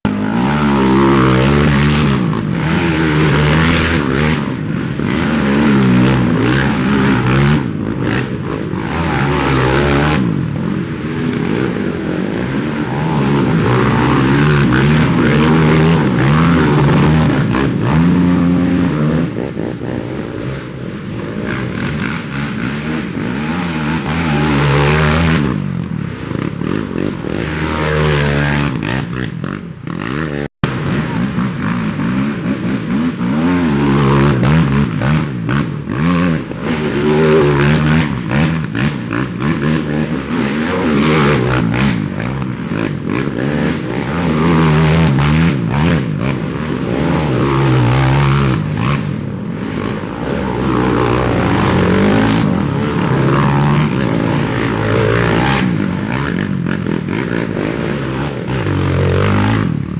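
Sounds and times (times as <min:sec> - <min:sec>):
quad engines revving: 0:00.0 - 0:59.9.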